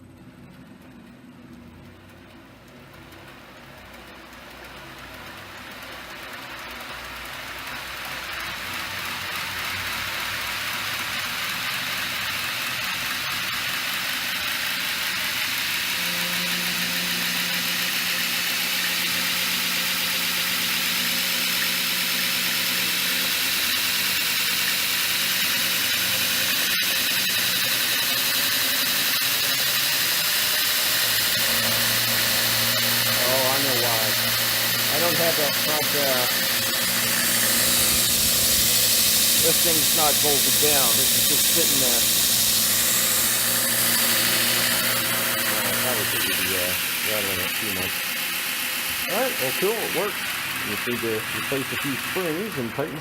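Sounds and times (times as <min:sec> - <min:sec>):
belt grinder whirring: 0:03.6 - 0:53.0.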